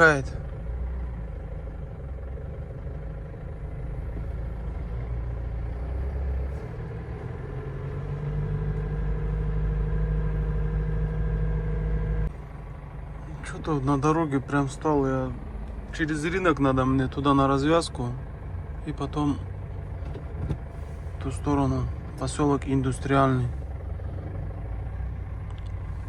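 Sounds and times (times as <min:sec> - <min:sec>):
van engine and road drone: 0:00.0 - 0:26.0.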